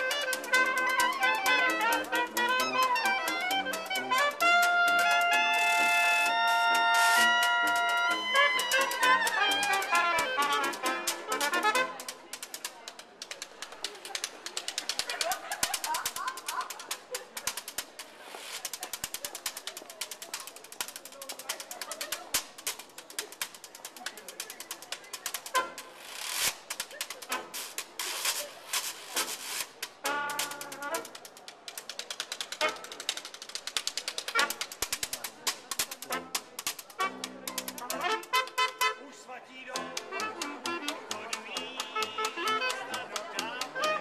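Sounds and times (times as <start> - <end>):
washboard tapping and rattling: 0.0 - 39.0, 39.7 - 44.0.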